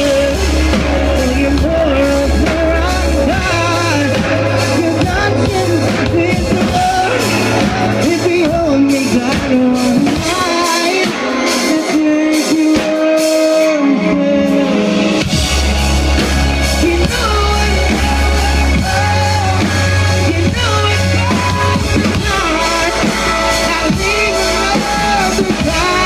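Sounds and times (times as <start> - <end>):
drums: 0.0 - 26.0
guitar: 0.0 - 26.0
heavy bass: 0.0 - 26.0
person singing lead vocal: 0.0 - 26.0.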